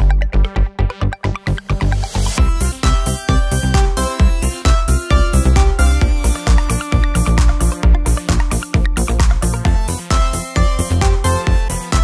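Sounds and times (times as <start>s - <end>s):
electronic music with fast beat: 0.0s - 12.0s.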